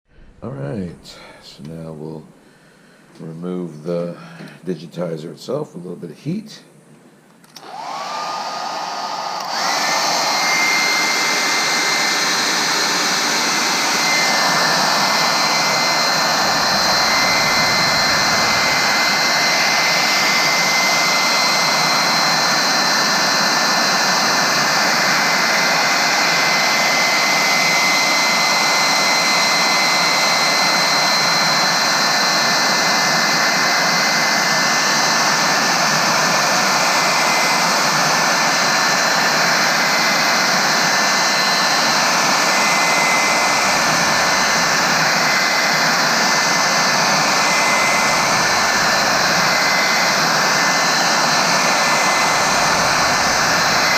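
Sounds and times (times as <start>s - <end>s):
hot-air blower running: 7.2s - 53.9s.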